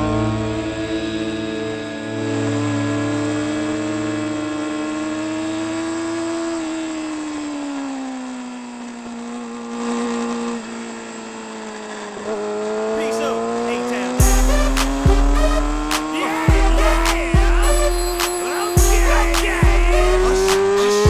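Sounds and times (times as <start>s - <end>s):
motorcycle engine revving: 2.0s - 21.0s.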